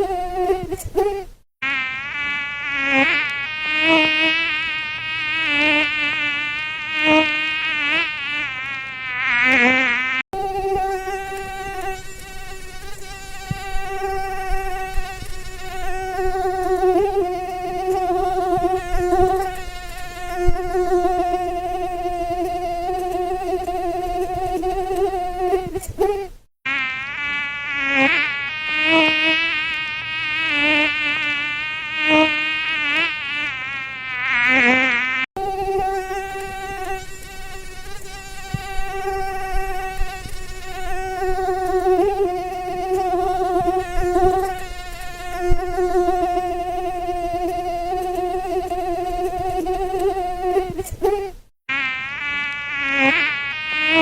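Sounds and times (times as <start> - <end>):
mosquito wing whine: 0.0 - 54.0.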